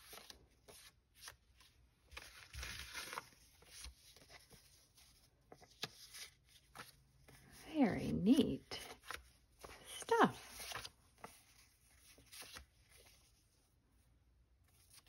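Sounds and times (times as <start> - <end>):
paper sheets rustling: 0.0 - 13.7.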